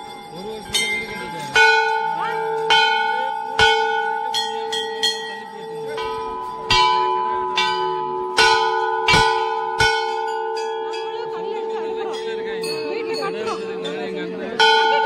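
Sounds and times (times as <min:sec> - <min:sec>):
metal temple bells ringing: 0:00.0 - 0:15.0.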